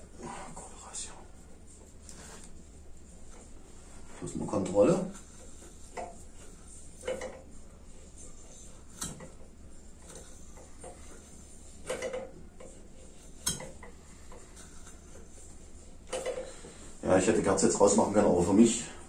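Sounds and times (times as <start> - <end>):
air heater humming: 0.0 - 19.0.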